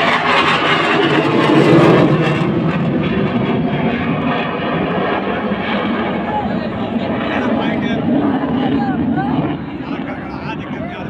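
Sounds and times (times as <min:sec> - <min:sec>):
fighter jet flying past: 0:00.0 - 0:11.0.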